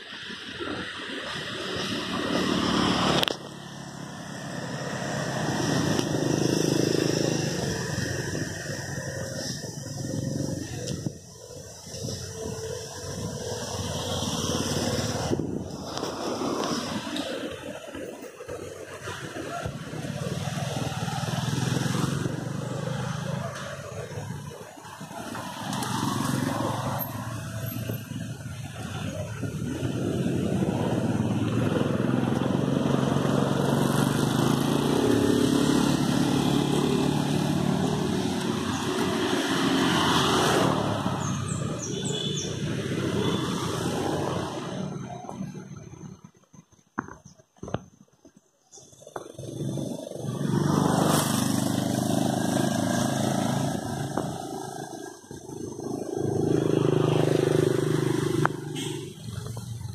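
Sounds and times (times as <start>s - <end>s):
motor scooter passing: 0.0s - 46.4s, 48.9s - 59.9s.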